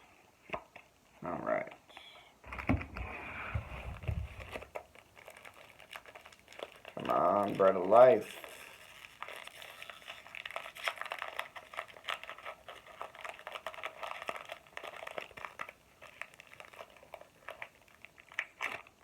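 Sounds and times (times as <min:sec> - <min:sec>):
card pack crinkling and rustling: 0:02.5 - 0:19.0.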